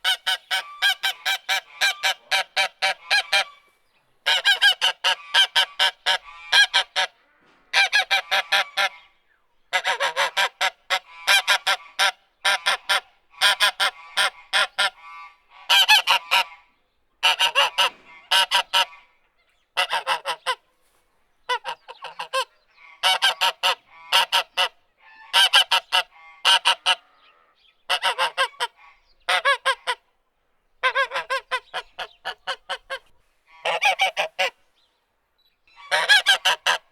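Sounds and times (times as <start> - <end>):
goose honking: 0.0 - 9.1, 9.7 - 19.1, 19.8 - 20.7, 21.5 - 30.1, 30.8 - 34.6, 35.7 - 36.9.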